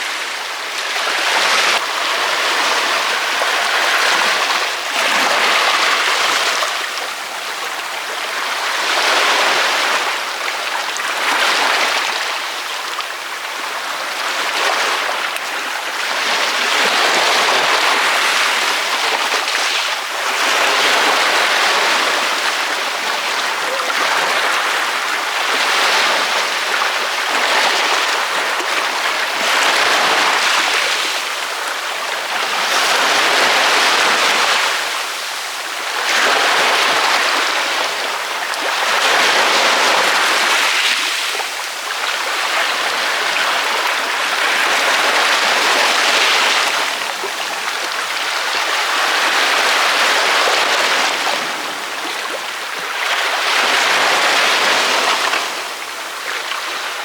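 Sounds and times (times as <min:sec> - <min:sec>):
ocean waves breaking: 0:00.0 - 0:12.6, 0:13.6 - 0:57.0.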